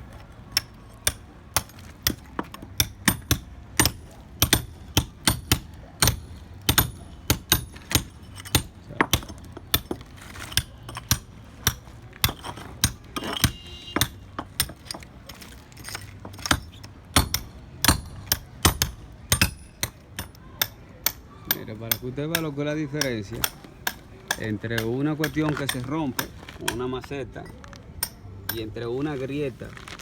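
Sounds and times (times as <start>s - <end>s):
hammer striking a chisel: 0.5s - 28.8s.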